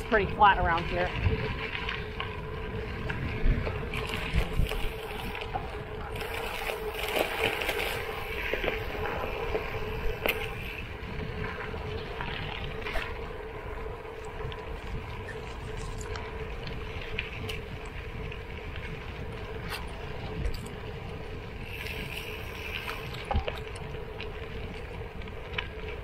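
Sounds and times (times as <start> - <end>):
bike tyres crunching on gravel: 0.0 - 26.0
wind on microphone: 0.0 - 26.0.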